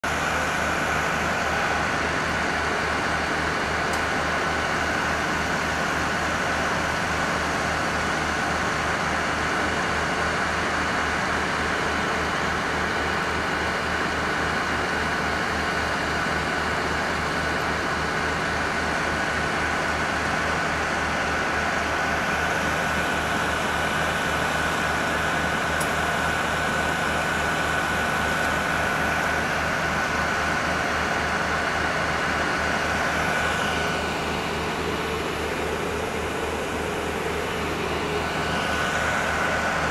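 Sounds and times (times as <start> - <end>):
fire engine throbbing: 0.0 - 39.9.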